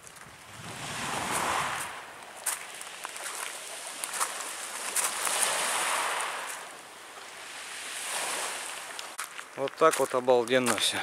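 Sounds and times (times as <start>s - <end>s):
waves washing onto pebble beach: 0.5s - 11.0s.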